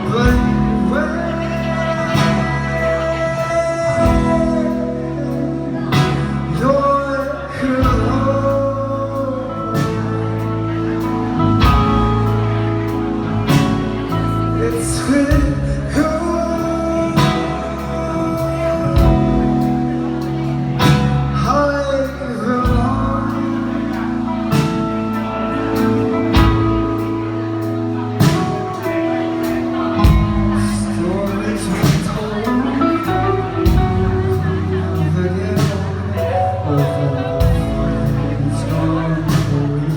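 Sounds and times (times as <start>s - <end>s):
bass line: 0.0s - 39.9s
guitar chords: 0.0s - 39.9s
man singing: 0.0s - 39.9s.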